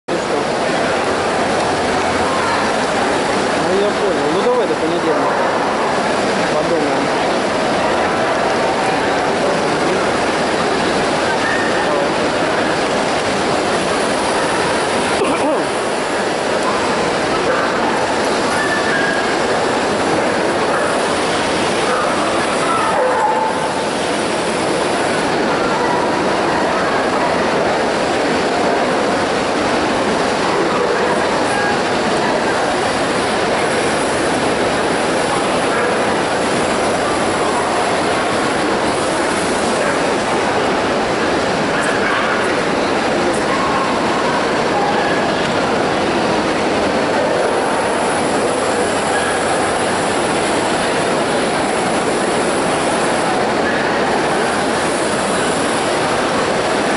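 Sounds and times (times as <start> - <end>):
crowd voices in a hall: 0.0 - 56.9.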